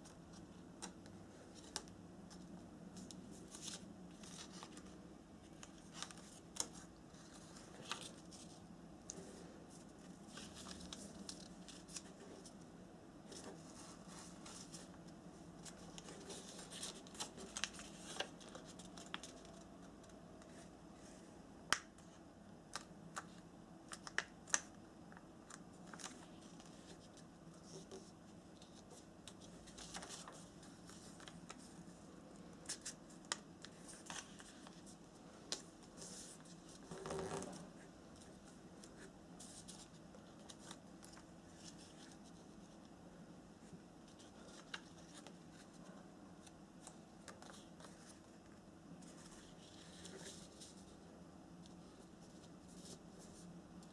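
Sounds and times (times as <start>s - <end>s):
paper folding clicks and rustles: 0.0s - 12.6s, 15.6s - 20.6s, 22.7s - 31.8s, 32.5s - 42.8s, 44.1s - 45.8s, 46.4s - 50.9s
faint low hum: 0.0s - 53.9s.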